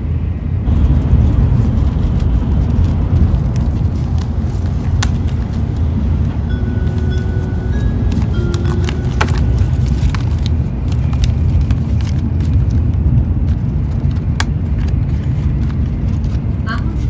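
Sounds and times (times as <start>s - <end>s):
train running rumble: 0.0s - 17.0s
paper wrapping clicks: 1.6s - 16.6s.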